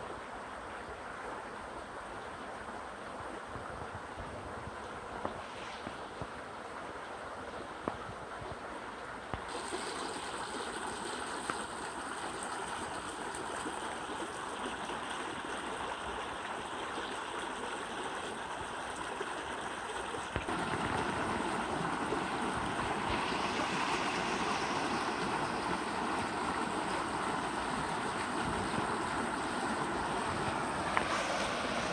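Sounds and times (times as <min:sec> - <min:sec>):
stream water flowing over rocks: 0:00.0 - 0:31.9.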